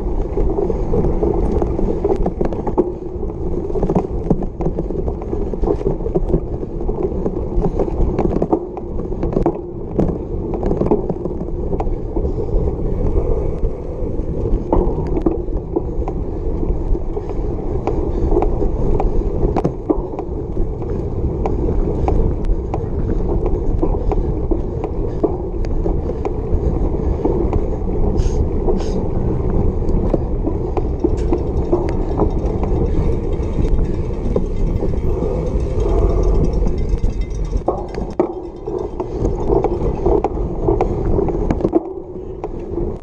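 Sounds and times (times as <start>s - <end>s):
bike clicking and rattling: 0.0s - 43.0s.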